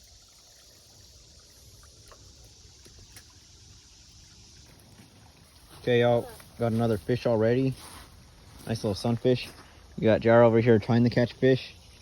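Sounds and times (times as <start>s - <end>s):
insect hiss: 0.0s - 12.0s.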